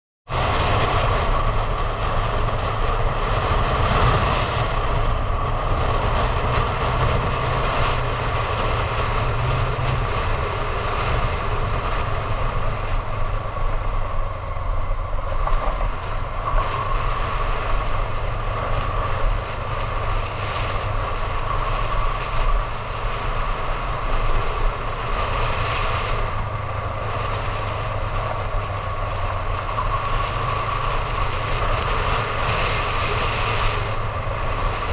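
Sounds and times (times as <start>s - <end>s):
motorcycle engine running: 0.3s - 34.9s
wind on microphone: 0.3s - 34.9s.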